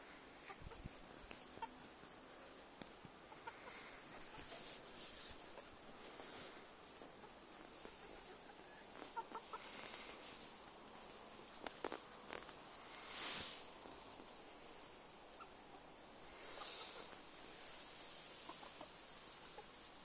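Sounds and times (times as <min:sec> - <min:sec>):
chickens clucking softly: 0:00.1 - 0:20.0
faint rustling: 0:00.1 - 0:20.0.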